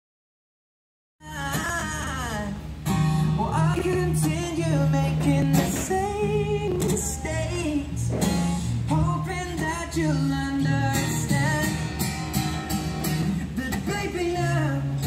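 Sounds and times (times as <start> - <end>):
person singing: 1.2 - 12.2, 13.4 - 15.0
guitar bass and beat: 1.2 - 15.0.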